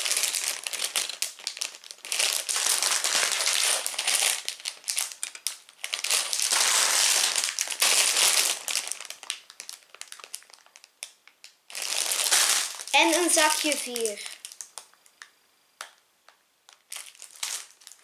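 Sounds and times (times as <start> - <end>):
plastic bags crinkling: 0.0 - 15.2, 16.7 - 18.0.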